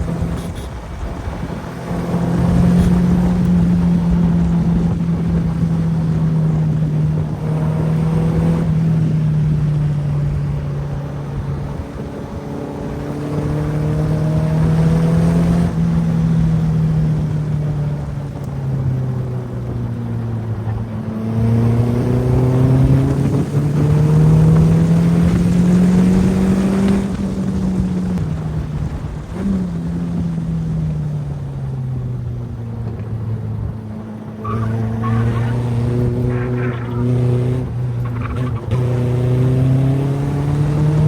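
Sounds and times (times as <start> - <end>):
race car engine revving: 0.0 - 30.7, 32.7 - 41.0.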